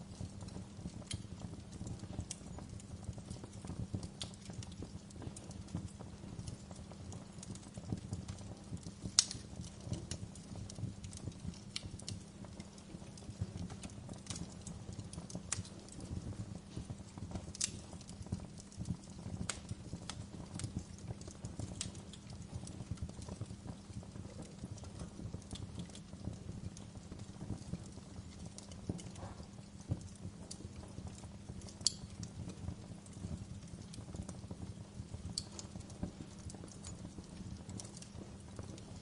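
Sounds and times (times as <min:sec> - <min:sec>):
fire rumbling and crackling: 0:00.0 - 0:39.0
sharp pops of burning wood: 0:00.1 - 0:39.0.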